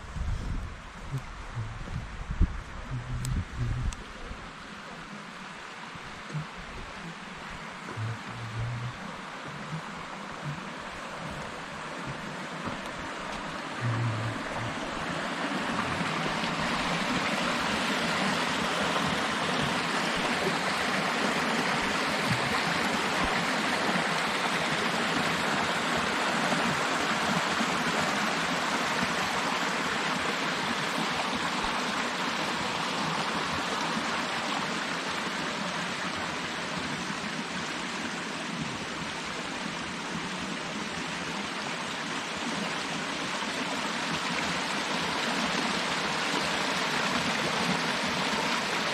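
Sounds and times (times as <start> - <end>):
stream rushing over stones: 0.1 - 48.9.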